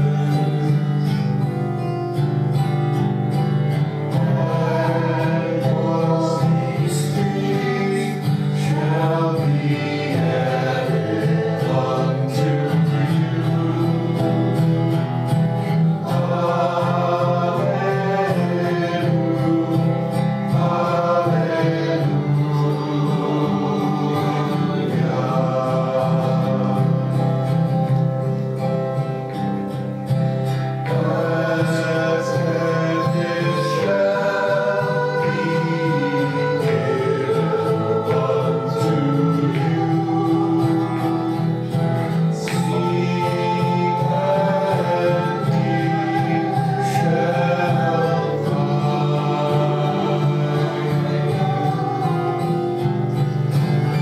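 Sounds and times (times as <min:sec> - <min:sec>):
hymn with instrumental accompaniment: 0:00.0 - 0:54.0.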